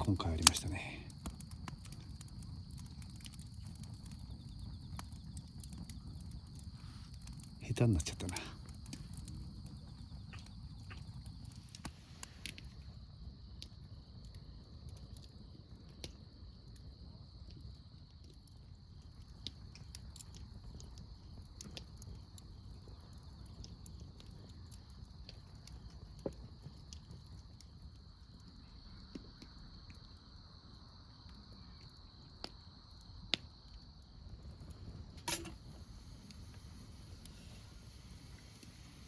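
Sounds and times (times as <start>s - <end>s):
campfire crackling and popping: 0.0s - 39.0s
insects chirring: 0.0s - 39.0s.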